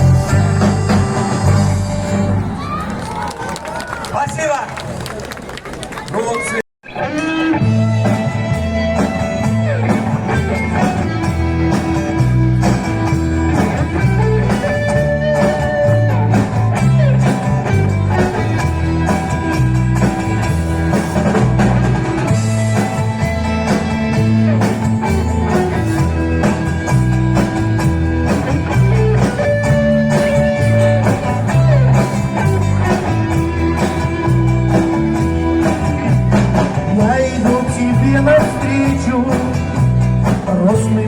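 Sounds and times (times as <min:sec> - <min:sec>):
repeating low bass line: 0:00.0 - 0:02.6, 0:07.6 - 0:41.0
electric guitar: 0:00.0 - 0:02.7, 0:06.8 - 0:41.0
drum kit beat: 0:07.1 - 0:41.0.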